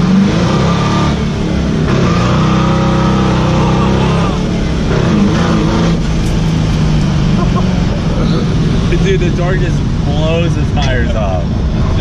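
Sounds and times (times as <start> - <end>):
diesel engine accelerating: 0.0 - 12.0.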